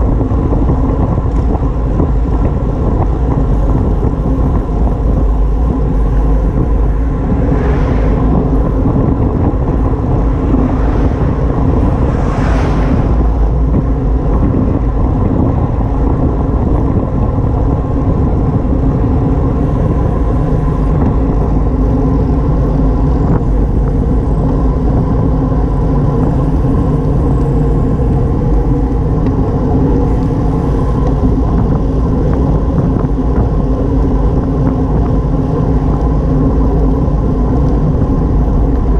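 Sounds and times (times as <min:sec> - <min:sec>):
bicycle road noise: 0:00.0 - 0:38.9
wind rush on microphone: 0:00.0 - 0:38.9.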